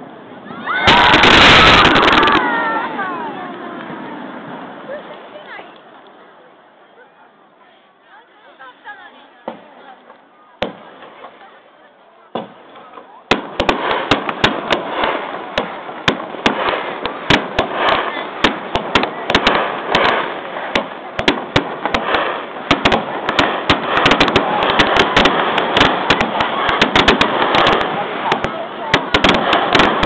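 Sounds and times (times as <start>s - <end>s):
fireworks cracking: 0.0s - 6.3s, 8.6s - 30.0s
fireworks crackling: 0.0s - 7.2s, 7.8s - 30.0s.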